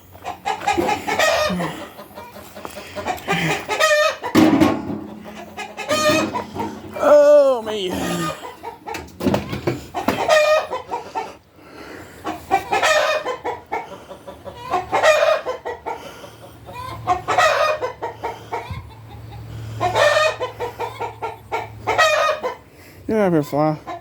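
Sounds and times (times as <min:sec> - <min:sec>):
chickens squawking: 0:00.0 - 0:24.0.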